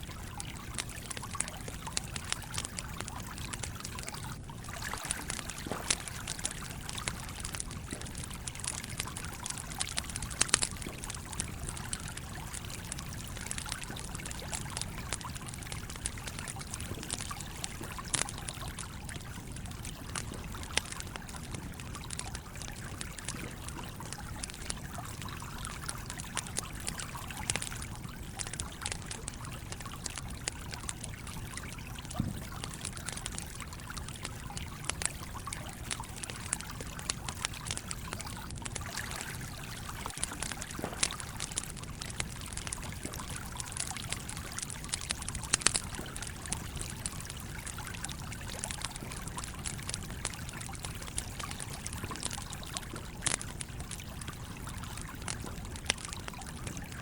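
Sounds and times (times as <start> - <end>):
stream flowing: 0.0 - 53.4
campfire crackling and popping: 0.0 - 57.0.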